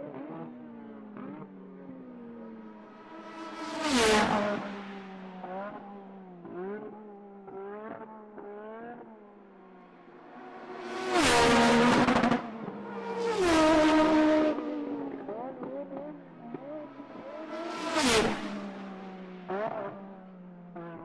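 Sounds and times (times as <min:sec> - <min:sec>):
race cars passing by: 0:00.0 - 0:21.0.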